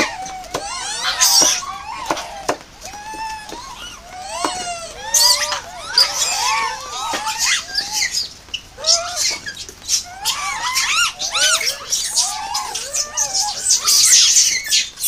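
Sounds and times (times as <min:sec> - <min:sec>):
macaques squeaking and cooing: 0:00.0 - 0:15.0.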